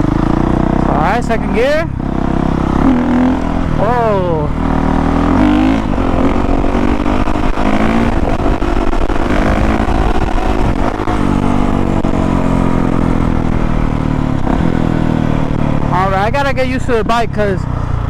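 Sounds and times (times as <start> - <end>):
motorcycle engine under throttle: 0.0 - 18.0.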